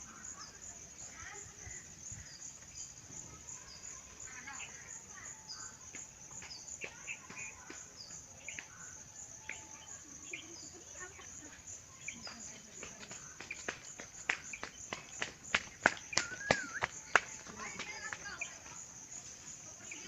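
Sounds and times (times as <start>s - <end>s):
bird chirps: 0.0s - 20.0s
insect trill: 0.0s - 20.0s.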